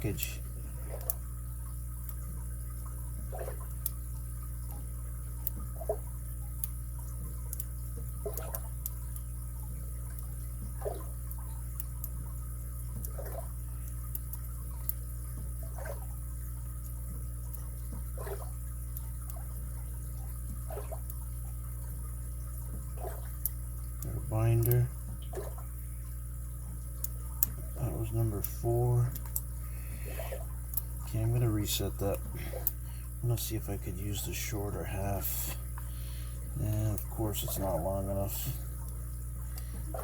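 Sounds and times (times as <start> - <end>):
steady low hum: 0.0 - 40.0
soft regular tick: 0.8 - 33.0, 35.4 - 40.0.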